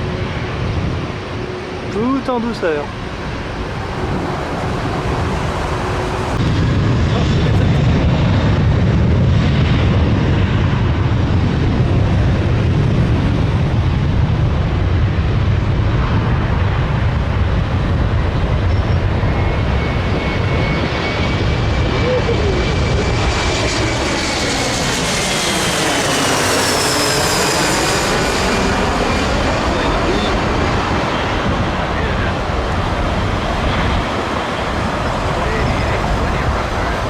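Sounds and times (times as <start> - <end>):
high engine whine: 0.0 - 37.0
jet engines roaring overhead: 0.0 - 37.0.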